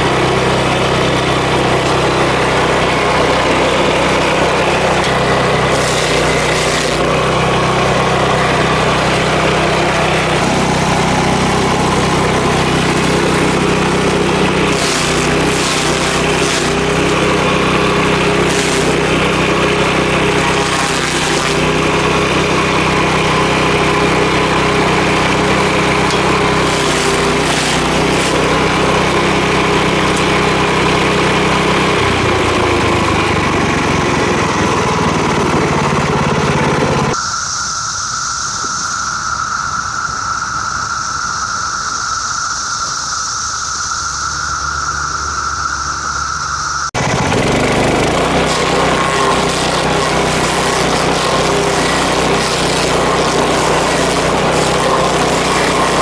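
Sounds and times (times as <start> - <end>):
stump grinder grinding wood: 0.0 - 37.2, 46.9 - 56.0.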